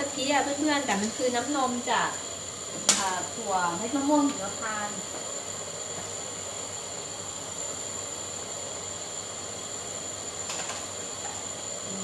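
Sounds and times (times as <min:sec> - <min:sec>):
gas burner flame hissing: 0:00.0 - 0:12.0.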